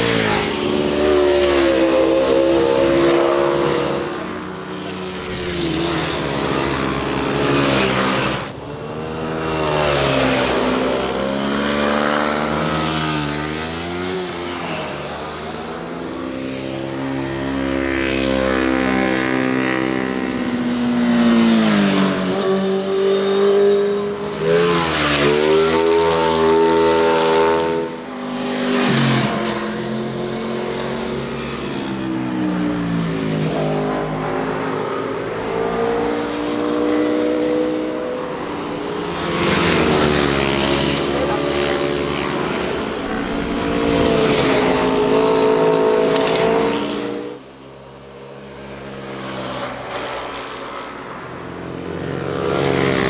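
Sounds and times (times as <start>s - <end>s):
motorcycles passing by revving: 0.0s - 53.0s.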